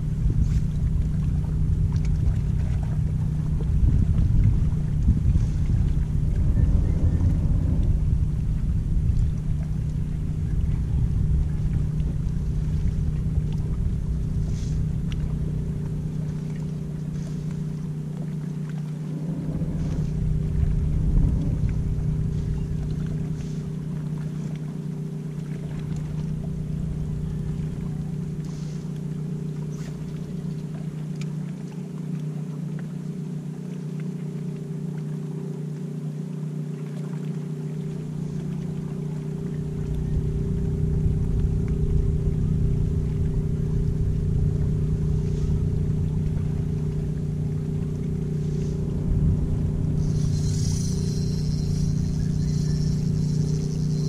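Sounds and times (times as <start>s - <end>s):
wind rumble on microphone: 0.0s - 33.8s, 36.8s - 54.0s
boat engine droning: 0.0s - 54.0s.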